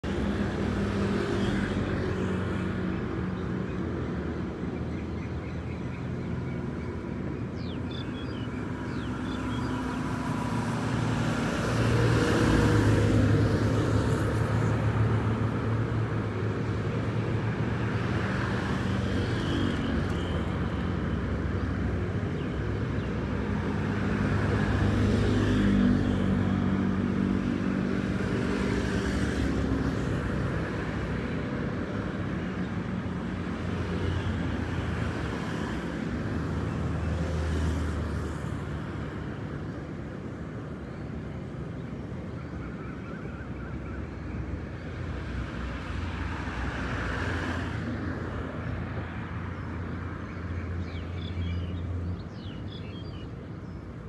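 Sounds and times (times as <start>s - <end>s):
passing motor traffic: 0.0s - 54.0s.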